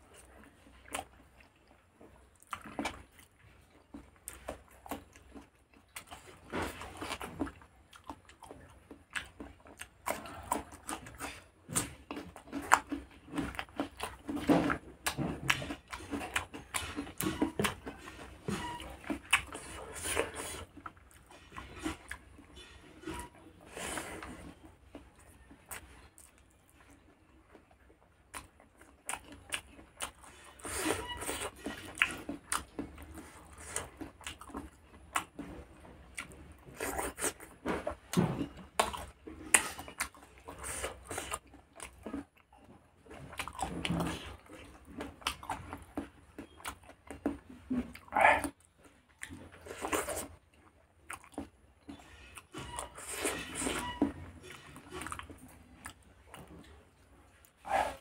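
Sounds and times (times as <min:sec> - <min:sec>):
close chewing and mouth smacks: 0:00.0 - 0:58.0.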